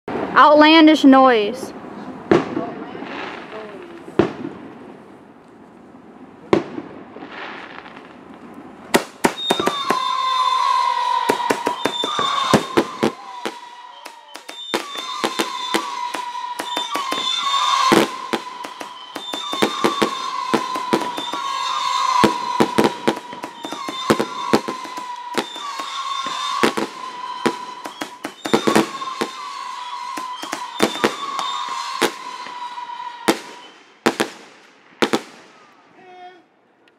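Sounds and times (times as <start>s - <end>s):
fireworks bangs and crackling: 1.8s - 36.0s.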